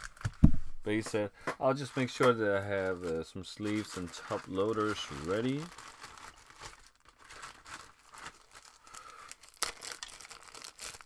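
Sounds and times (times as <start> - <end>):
plastic crinkling and rustling: 1.0 - 11.0.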